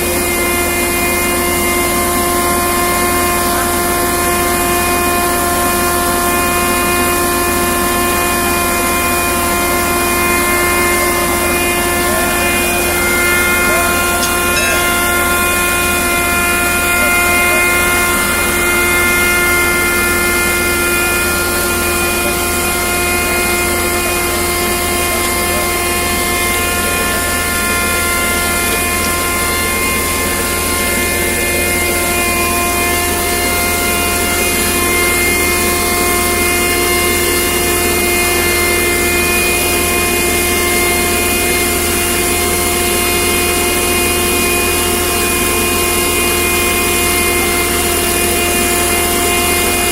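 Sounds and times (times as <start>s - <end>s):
motor running with whine: 0.0s - 49.9s.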